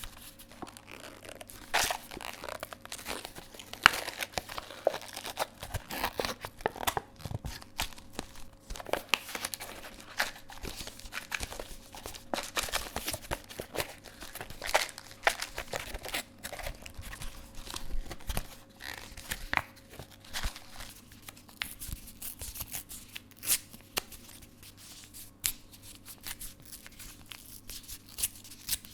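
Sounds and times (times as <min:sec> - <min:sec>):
small packets torn open: 0:00.0 - 0:24.3
plastic film crinkling and tearing: 0:00.0 - 0:28.9.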